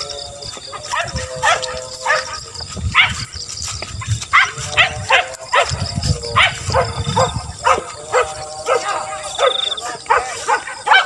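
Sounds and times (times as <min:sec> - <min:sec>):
dogs baying: 0:00.0 - 0:11.0.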